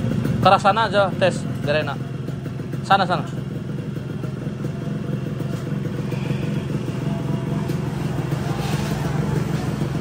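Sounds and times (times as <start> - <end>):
two-stroke motorcycle engine idling: 0.0 - 10.0.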